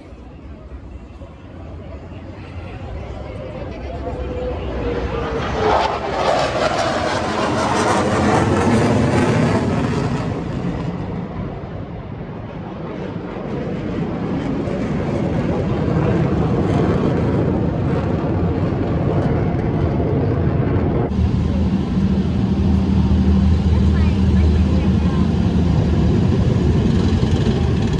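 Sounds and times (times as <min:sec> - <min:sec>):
aircraft flying over: 0:00.0 - 0:27.9.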